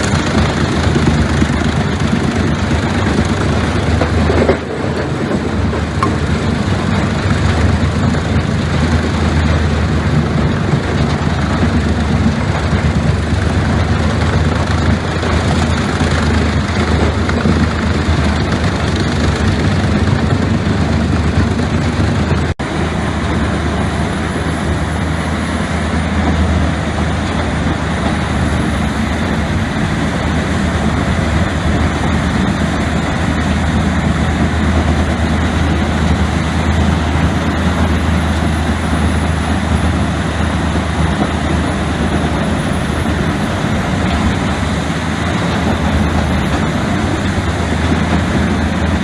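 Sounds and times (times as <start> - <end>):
heavy machine engine running: 0.0 - 49.0.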